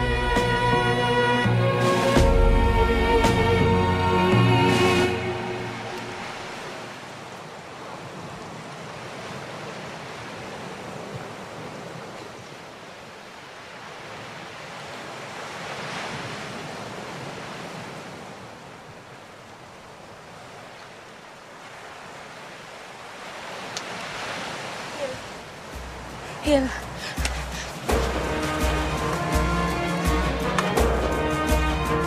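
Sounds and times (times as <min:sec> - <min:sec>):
sea surf rushing: 0:00.0 - 0:32.0
wind: 0:00.0 - 0:32.0.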